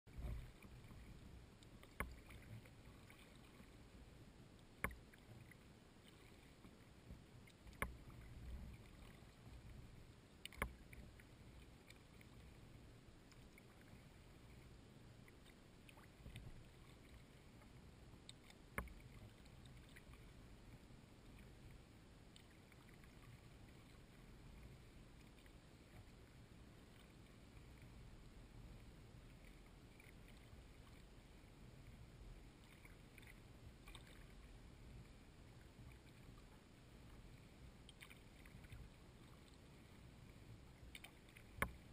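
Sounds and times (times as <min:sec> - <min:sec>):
kayak gliding on water: 0:00.0 - 0:41.9.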